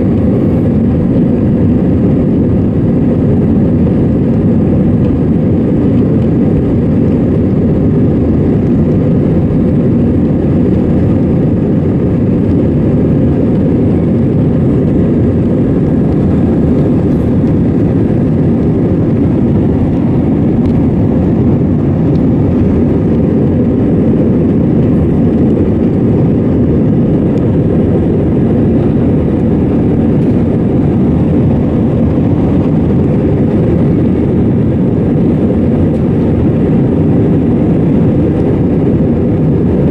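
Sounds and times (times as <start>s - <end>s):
jet engine cabin noise: 0.0s - 39.9s.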